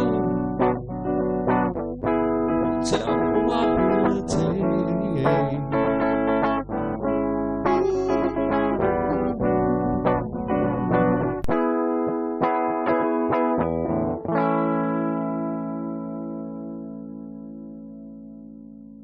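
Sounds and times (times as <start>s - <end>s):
guitar plucked and strummed: 0.0s - 19.0s.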